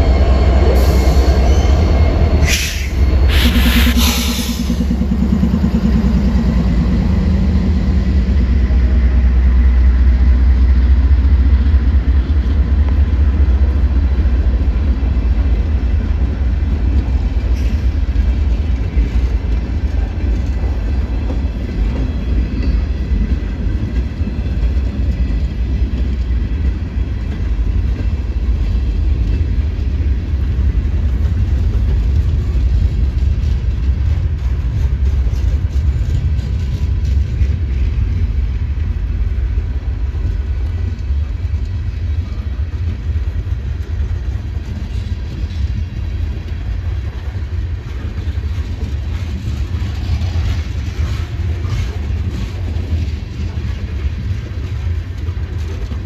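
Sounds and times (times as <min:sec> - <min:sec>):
diesel locomotive engine: 0:00.0 - 0:56.0
freight train rolling past: 0:00.0 - 0:56.0.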